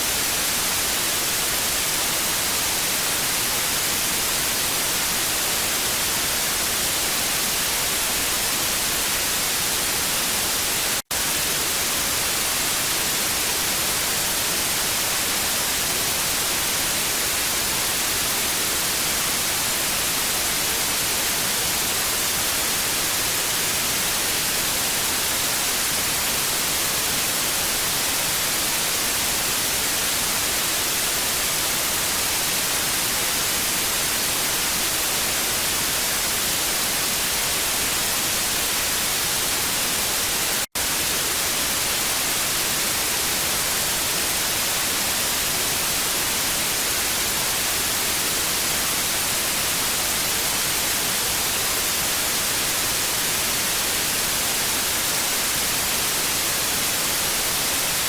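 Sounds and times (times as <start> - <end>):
tv static hiss: 0.0 - 58.0.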